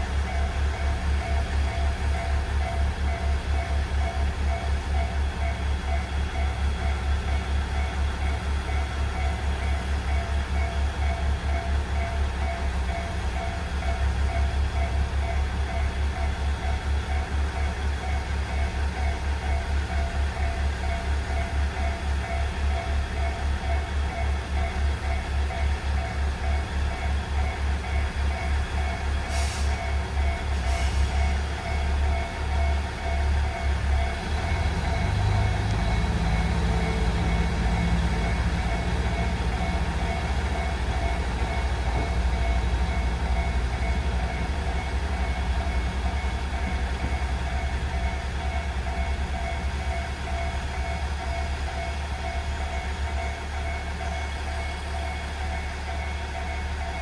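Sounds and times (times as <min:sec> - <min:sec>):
diesel railcar engine running: 0:00.0 - 0:57.0.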